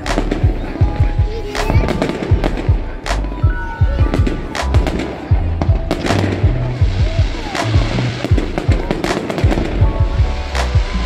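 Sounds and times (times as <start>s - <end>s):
fireworks bangs and crackles: 0.0s - 11.0s
music with deep bass: 0.0s - 11.0s.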